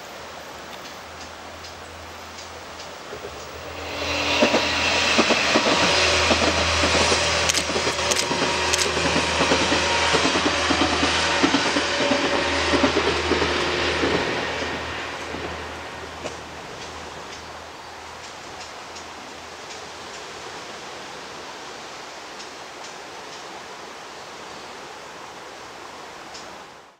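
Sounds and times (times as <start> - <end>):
diesel train passing: 0.0 - 26.8.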